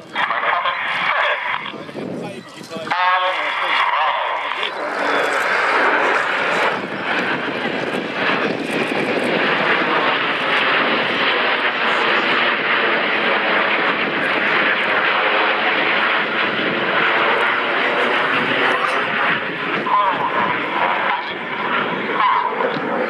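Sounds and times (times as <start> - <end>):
jet aircraft rushing overhead: 0.0 - 23.0.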